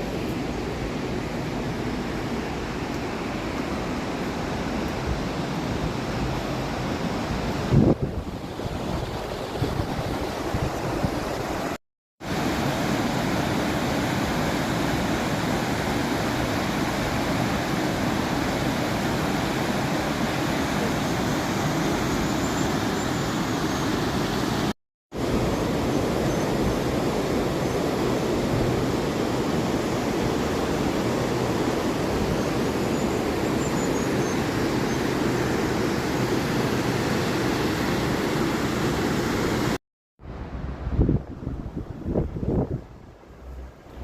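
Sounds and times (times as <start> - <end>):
river water rushing: 0.0 - 39.8.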